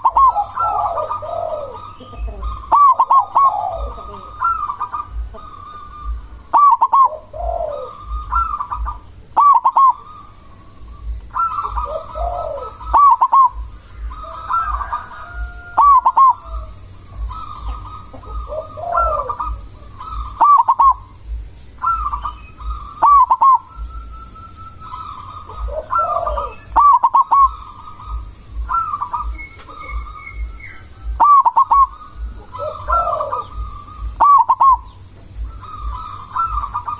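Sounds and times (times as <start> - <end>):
dove cooing: 0.0 - 36.9.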